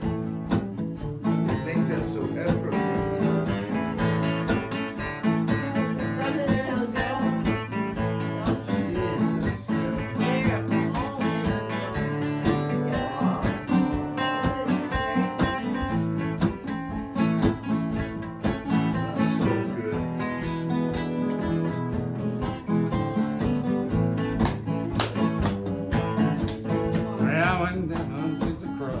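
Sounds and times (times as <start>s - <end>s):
acoustic guitars strumming: 0.0s - 29.0s
lap steel guitar: 0.0s - 29.0s.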